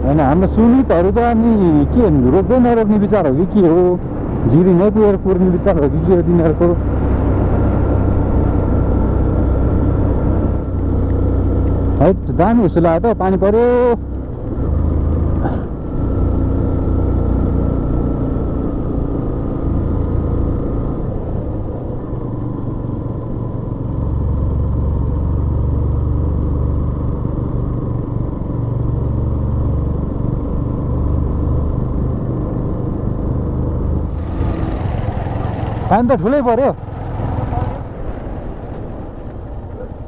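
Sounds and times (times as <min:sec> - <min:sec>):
vehicle engine and road noise: 0:00.0 - 0:40.0.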